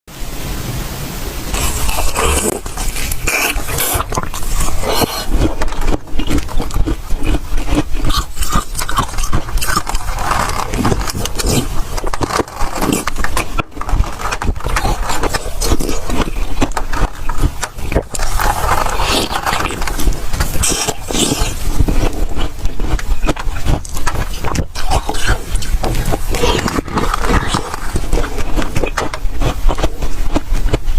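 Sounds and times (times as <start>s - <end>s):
chewing crunchy ice: 1.5s - 30.9s.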